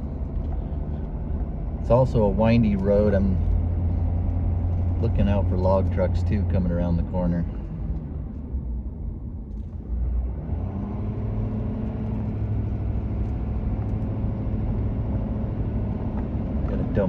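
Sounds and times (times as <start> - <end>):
car engine rumble: 0.0 - 17.0
tyres on bumpy road: 0.0 - 17.0.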